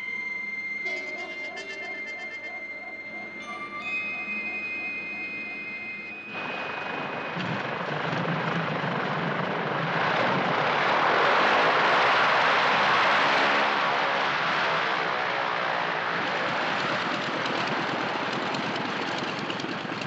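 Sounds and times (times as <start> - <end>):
tense music with held tones: 0.0 - 20.0
propeller plane engine: 0.8 - 20.0.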